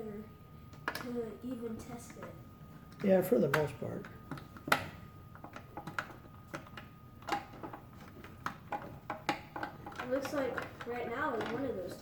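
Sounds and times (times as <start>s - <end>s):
small parts clicking and tapping: 0.7s - 1.2s, 2.0s - 12.0s.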